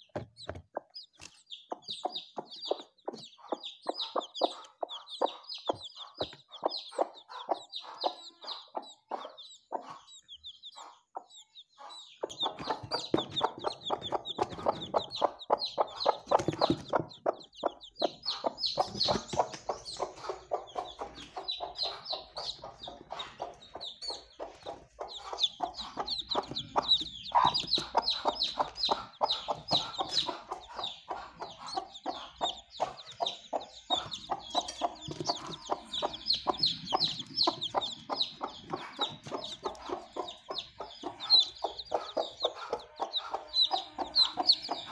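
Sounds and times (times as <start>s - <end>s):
chicks peeping: 0.0s - 44.9s
hen clucking rapidly: 0.0s - 44.9s.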